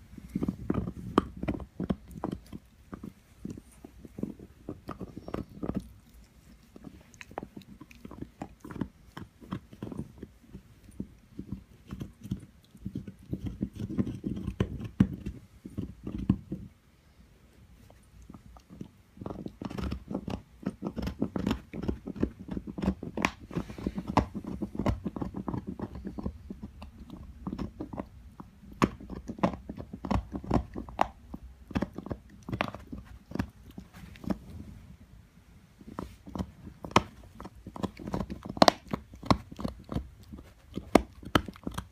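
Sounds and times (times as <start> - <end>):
dog gnawing on antler: 0.0 - 16.8, 17.8 - 34.6, 35.8 - 41.9.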